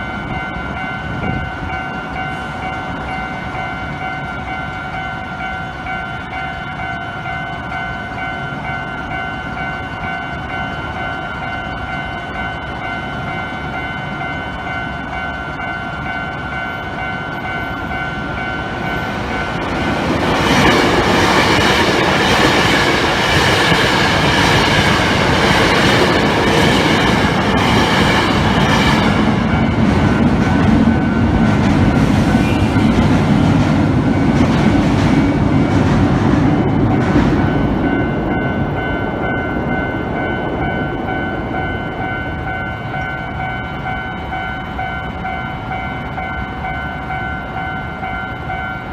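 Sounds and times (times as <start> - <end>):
level crossing warning bell: 0.0 - 33.2, 36.7 - 48.9
train passing with wheel knocks: 0.0 - 48.9.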